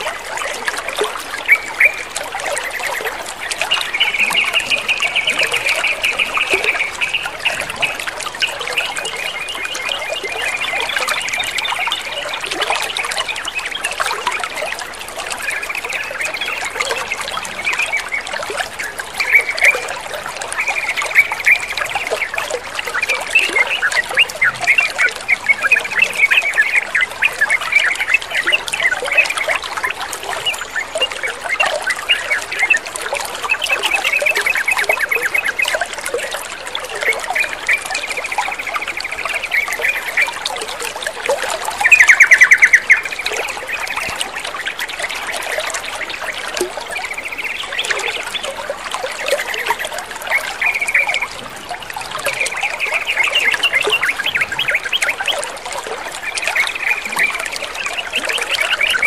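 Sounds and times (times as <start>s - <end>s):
birds calling and chattering: 0.0s - 59.0s
trickling water: 0.0s - 59.0s.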